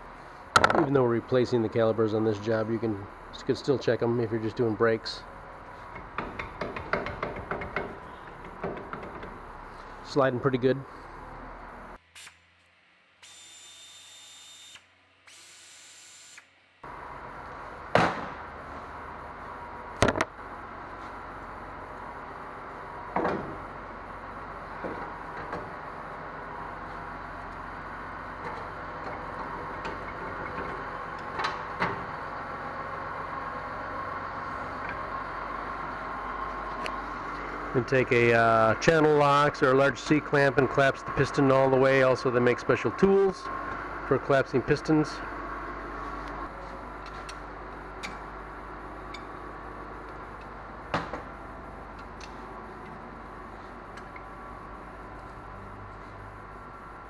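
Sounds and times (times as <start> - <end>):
shop hum: 0.0 - 57.0.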